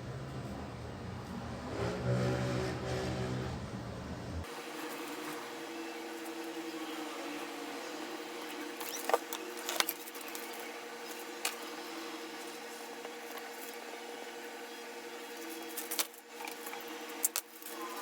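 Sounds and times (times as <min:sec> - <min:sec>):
steady indoor hum: 0:00.0 - 0:18.0.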